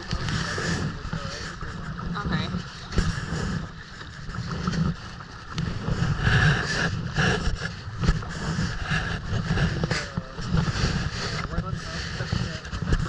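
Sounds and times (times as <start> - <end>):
water sloshing around kayak: 0.0 - 13.0
wind rumbling on microphone: 0.0 - 13.0.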